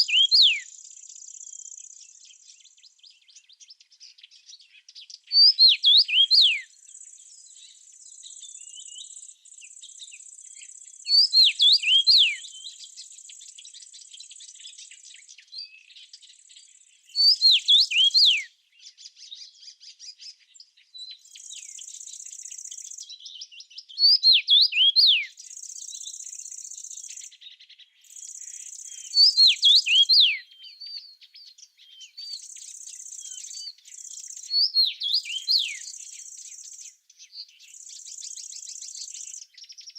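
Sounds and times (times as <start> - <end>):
songbird whistling: 0.0 - 2.7, 5.3 - 15.9, 17.1 - 18.5, 21.0 - 39.9.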